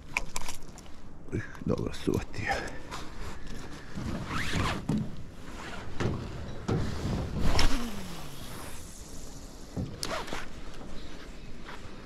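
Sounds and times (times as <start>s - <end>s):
rustling movement noise: 0.0s - 12.0s.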